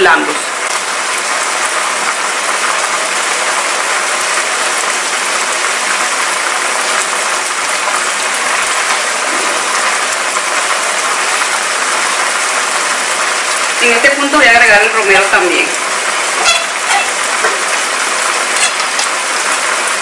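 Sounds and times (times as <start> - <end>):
food sizzling in a pan: 0.1 - 20.0.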